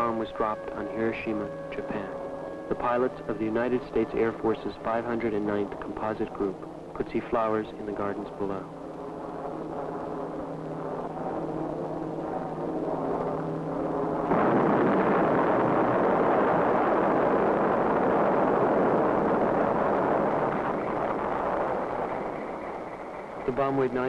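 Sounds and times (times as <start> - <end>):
explosion rumble: 0.0 - 24.0
piston aircraft engines droning: 0.0 - 24.0.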